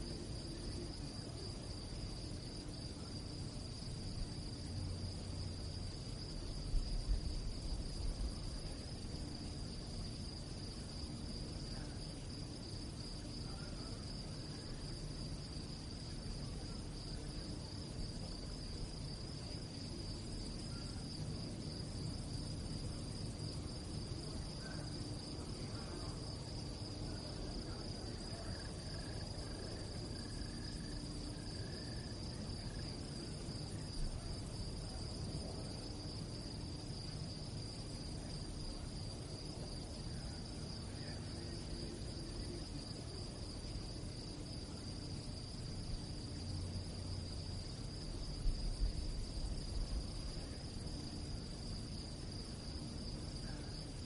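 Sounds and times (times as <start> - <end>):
crickets chirping: 0.0 - 54.0
low background rumble: 0.0 - 54.0.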